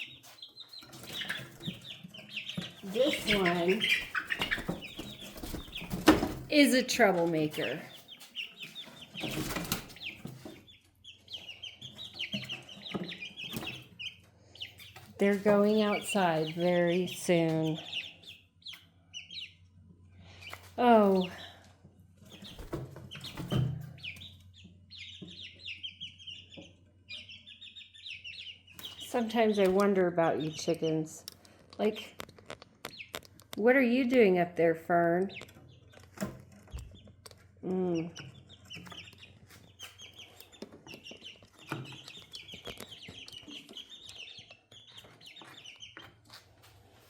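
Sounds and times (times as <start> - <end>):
chicks peeping: 0.0 - 47.0.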